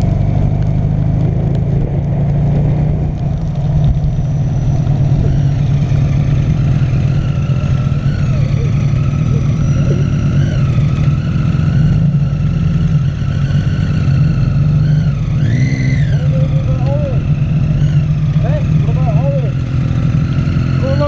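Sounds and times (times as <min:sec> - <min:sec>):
engine whine: 0:00.0 - 0:21.0
trike engine low drone: 0:00.0 - 0:21.0.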